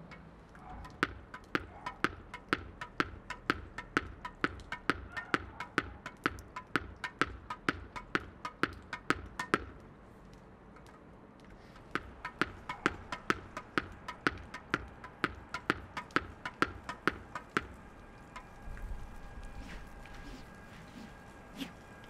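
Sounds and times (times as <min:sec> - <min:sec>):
tennis ball bouncing on paving: 0:00.0 - 0:09.9, 0:10.8 - 0:19.0.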